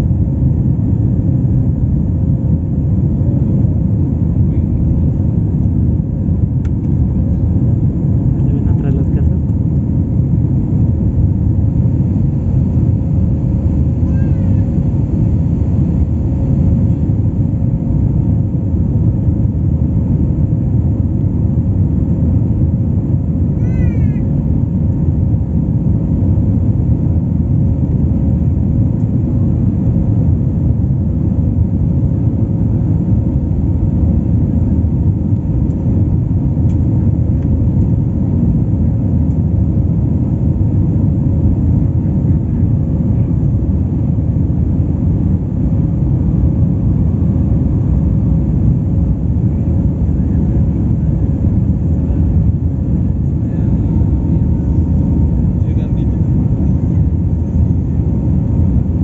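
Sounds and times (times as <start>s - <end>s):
airliner cabin engine rumble: 0.0s - 59.0s
faint steady hum: 0.0s - 59.0s.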